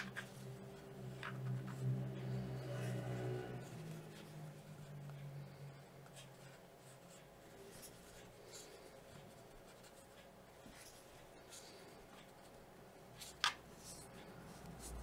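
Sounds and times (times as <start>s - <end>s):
crochet hook scratching yarn: 0.0s - 5.2s, 6.0s - 15.0s.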